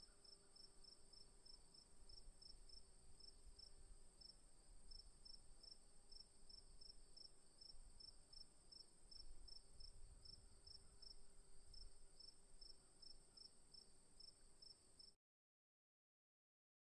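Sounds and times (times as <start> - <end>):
crickets trilling and chirping: 0.1 - 15.1.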